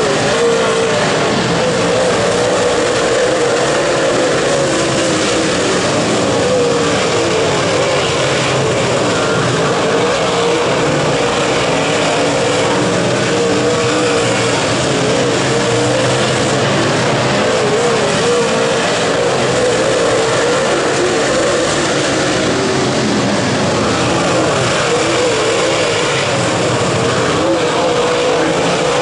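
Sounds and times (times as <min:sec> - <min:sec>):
race car engines droning: 0:00.0 - 0:29.0.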